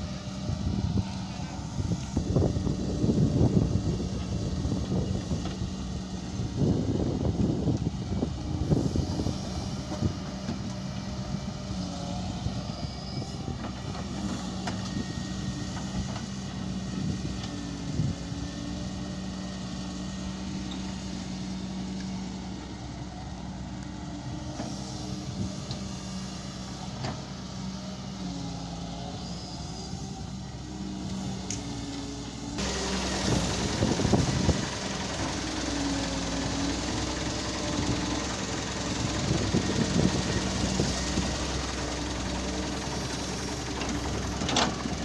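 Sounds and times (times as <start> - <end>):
excavator diesel engine: 0.0 - 45.0.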